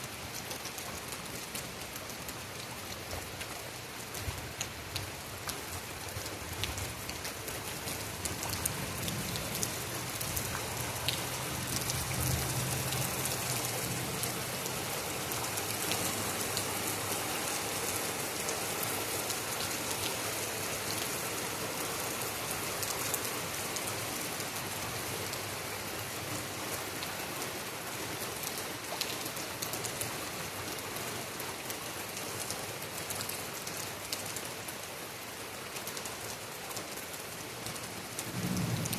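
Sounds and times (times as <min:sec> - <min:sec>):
heavy rain falling: 0:00.0 - 0:38.9
raindrops ticking close by: 0:00.0 - 0:38.9.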